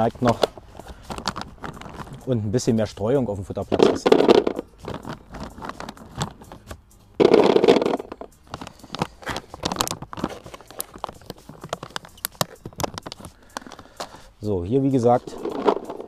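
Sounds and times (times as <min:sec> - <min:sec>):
plastic bag crinkling: 0:00.0 - 0:02.2, 0:03.7 - 0:14.3, 0:15.1 - 0:16.0
baits rattling into plastic bucket: 0:00.2 - 0:02.2, 0:03.6 - 0:14.2, 0:15.1 - 0:16.0.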